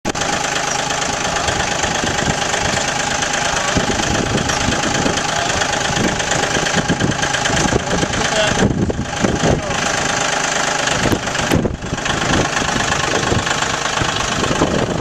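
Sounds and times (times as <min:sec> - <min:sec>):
tractor engine idling: 0:00.1 - 0:15.0.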